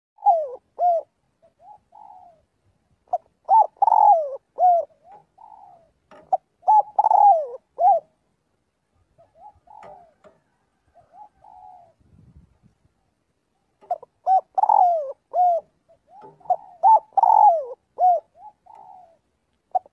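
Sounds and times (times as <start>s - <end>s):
dove cooing: 0.2s - 12.3s, 13.0s - 19.9s.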